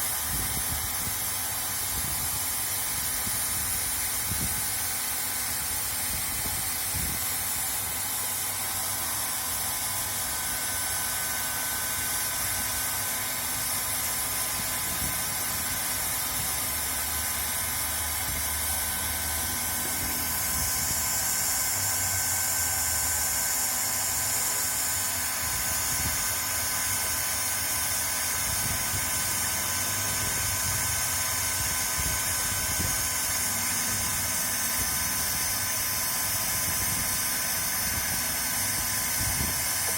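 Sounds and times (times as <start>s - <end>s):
blower whine: 0.0s - 39.9s
hot air hissing from nozzle: 0.0s - 39.9s.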